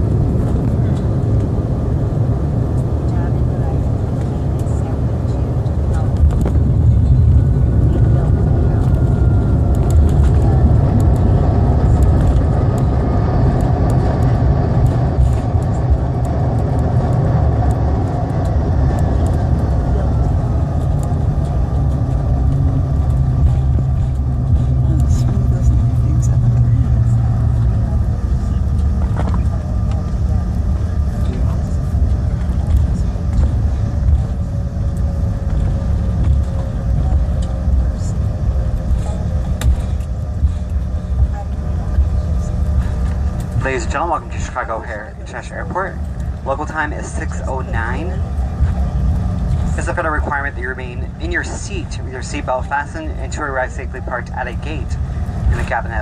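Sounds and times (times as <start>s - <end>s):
airliner cabin rumble: 0.0s - 56.0s
jet engine whine: 0.0s - 56.0s.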